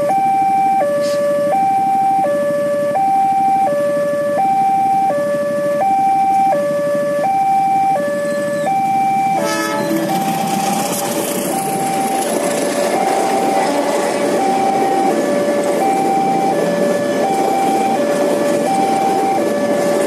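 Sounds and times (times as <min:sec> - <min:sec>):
two-tone crossing alarm chime: 0:00.0 - 0:10.7, 0:11.5 - 0:20.0
diesel locomotive and wheel noise: 0:00.0 - 0:20.0.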